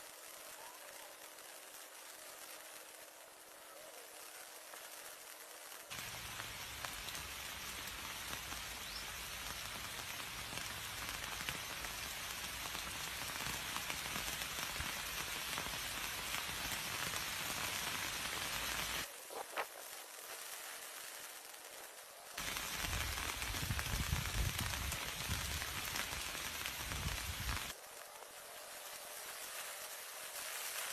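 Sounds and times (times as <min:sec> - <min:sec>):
steady outdoor hiss: 0:00.0 - 0:30.9.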